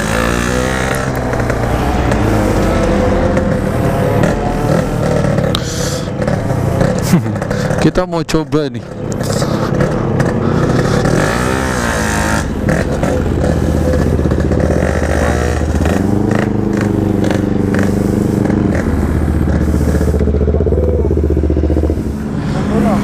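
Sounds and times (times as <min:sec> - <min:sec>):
two-stroke engine accelerating: 0:00.0 - 0:23.0.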